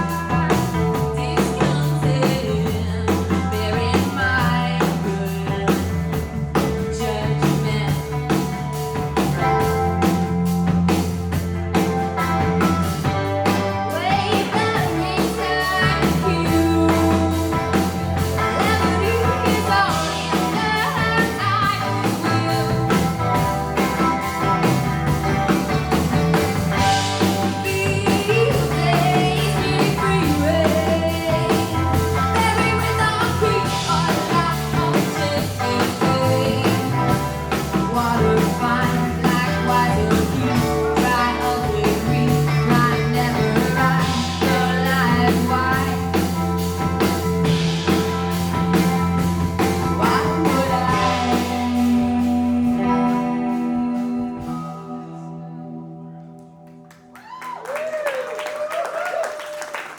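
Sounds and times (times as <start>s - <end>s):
drum kit steady beat: 0.0s - 54.6s
bass guitar: 0.0s - 59.9s
electric guitar: 0.0s - 59.9s.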